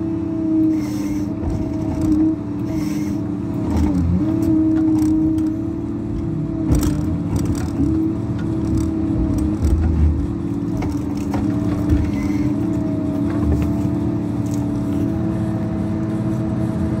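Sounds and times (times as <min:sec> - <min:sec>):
diesel engine running: 0:00.0 - 0:17.0
engine whine: 0:00.0 - 0:17.0.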